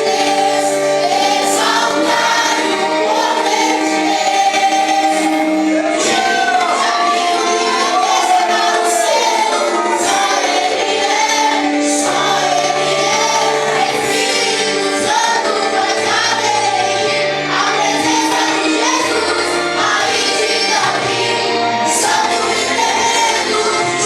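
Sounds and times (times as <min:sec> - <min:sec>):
group singing worship song: 0:00.0 - 0:24.0
instrumental accompaniment: 0:00.0 - 0:24.0.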